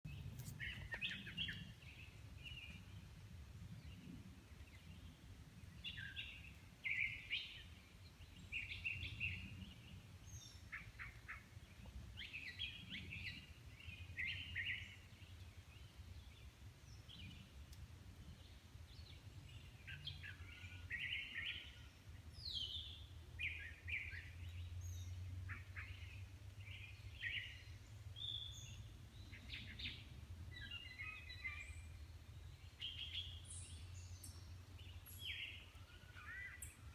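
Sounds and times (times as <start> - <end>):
songbird singing: 0.1 - 36.9.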